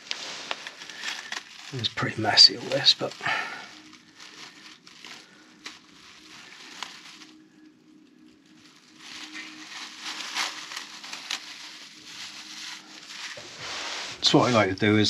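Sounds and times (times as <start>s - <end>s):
rustling and scraping: 0.0s - 15.0s.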